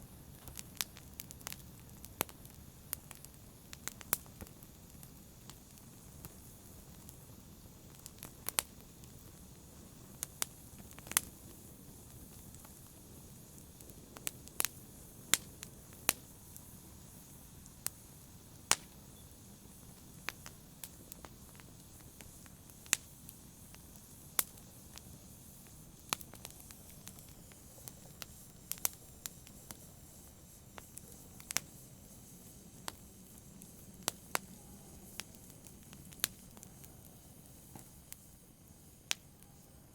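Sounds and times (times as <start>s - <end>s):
campfire crackling and popping: 0.0s - 39.7s.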